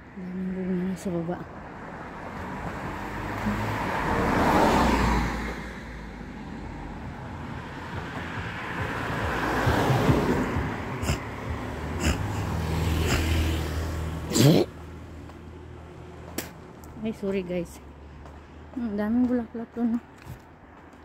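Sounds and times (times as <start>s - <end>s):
low traffic rumble: 0.0s - 21.0s
vehicles passing by: 0.0s - 21.0s.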